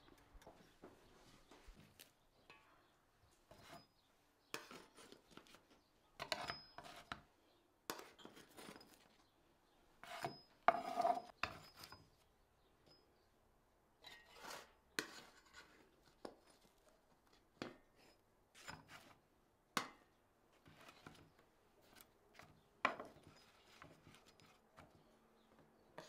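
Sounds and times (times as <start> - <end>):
knocking and scraping on wood and metal: 0.0 - 7.3, 7.9 - 9.3, 10.0 - 12.2, 14.0 - 19.2, 20.6 - 26.0.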